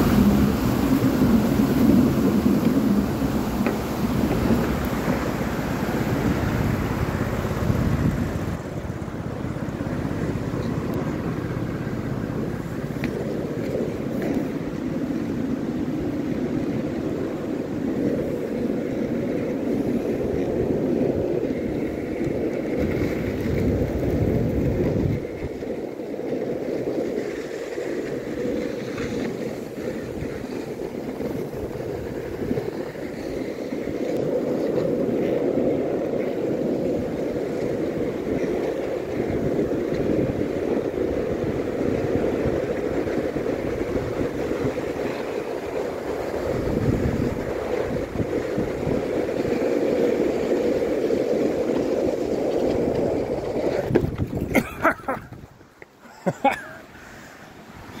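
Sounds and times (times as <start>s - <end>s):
skateboard wheels rolling on asphalt: 0.0s - 58.0s
wind noise on microphone: 0.0s - 58.0s.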